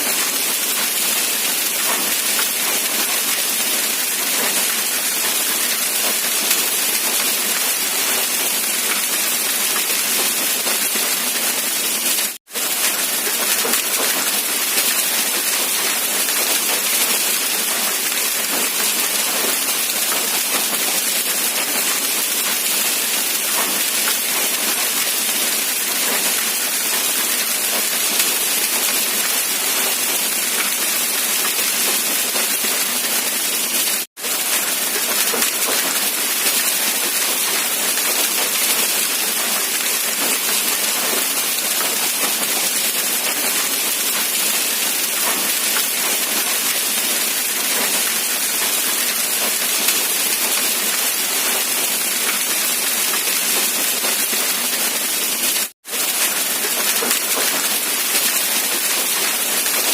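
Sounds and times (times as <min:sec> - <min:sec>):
rainfall hiss: 0:00.0 - 0:59.9.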